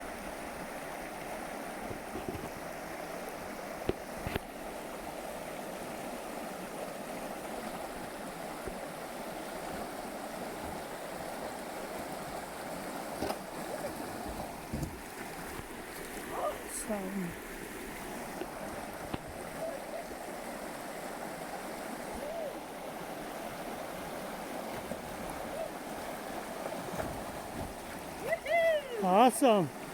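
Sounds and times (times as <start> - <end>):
flowing water: 0.0 - 29.9.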